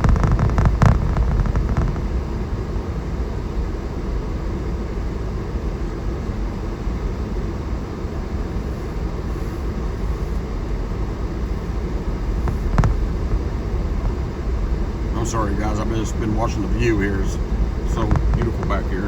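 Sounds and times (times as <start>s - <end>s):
engine and tyre rumble: 0.0s - 5.4s, 6.0s - 19.0s.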